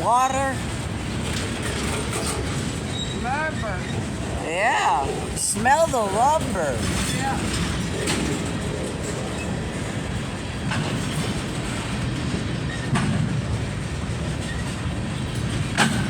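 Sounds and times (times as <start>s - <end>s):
freight train wheels rumbling: 0.0s - 16.0s
wheels clacking over rail joints: 0.0s - 16.0s.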